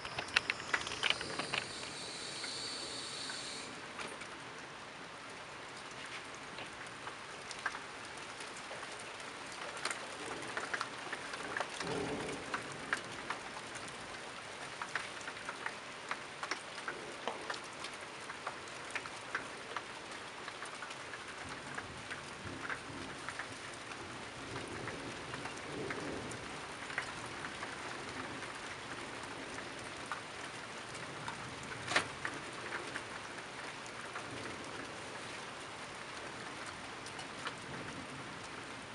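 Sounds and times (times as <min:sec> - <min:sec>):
raindrops tapping: 0:00.0 - 0:04.7, 0:05.3 - 0:38.9
steady rain falling: 0:00.0 - 0:38.9.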